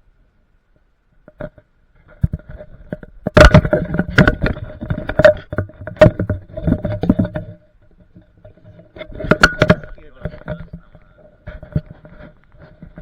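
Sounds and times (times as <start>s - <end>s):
faint steady tone: 0.0s - 13.0s.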